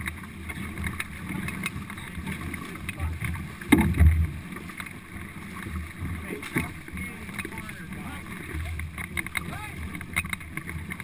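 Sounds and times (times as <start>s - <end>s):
paddles splashing in water: 0.0s - 11.0s.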